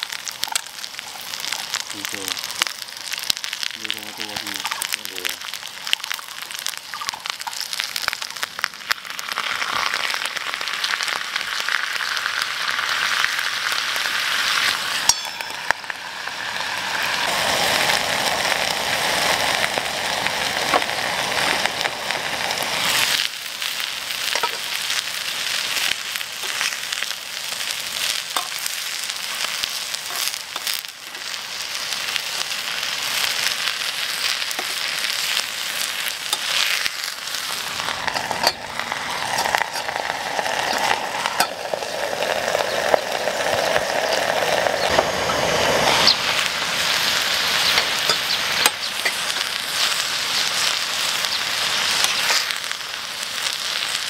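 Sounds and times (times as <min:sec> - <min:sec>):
vegetables sizzling in a frying pan: 0:00.0 - 0:54.0.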